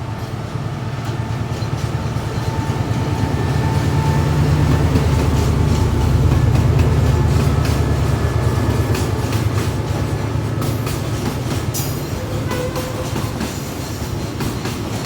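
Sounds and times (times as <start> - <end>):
locomotive engine rumble: 0.0 - 14.5.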